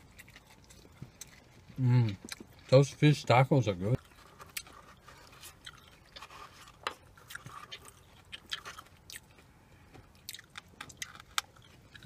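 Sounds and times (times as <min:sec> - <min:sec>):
close-up chewing of soft food: 0:00.0 - 0:12.0.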